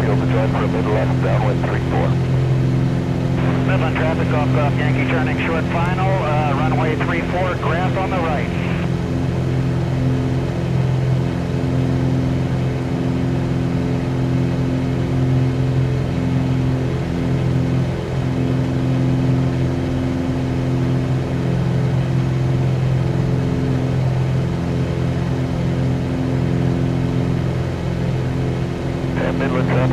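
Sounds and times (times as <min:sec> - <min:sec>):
airplane engine droning in flight: 0:00.0 - 0:29.9.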